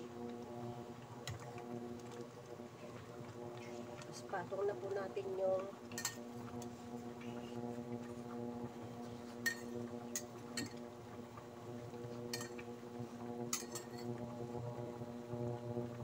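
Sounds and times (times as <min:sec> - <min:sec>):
induction cooktop humming: 0:00.0 - 0:16.0.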